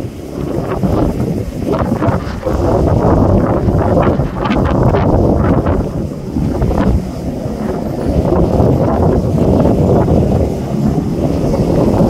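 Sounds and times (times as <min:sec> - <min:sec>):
churning sea water: 0:00.0 - 0:12.0
wind buffeting microphone: 0:00.0 - 0:12.0.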